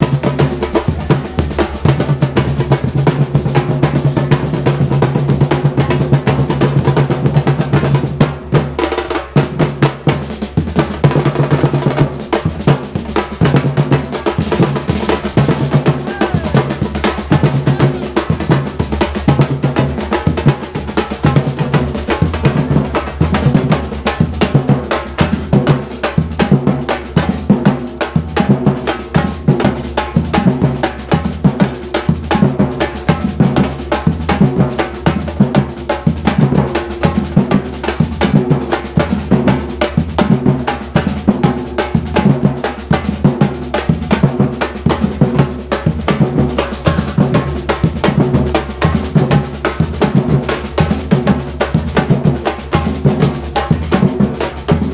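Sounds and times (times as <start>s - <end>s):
deep bass drum beats: 0.0s - 54.9s.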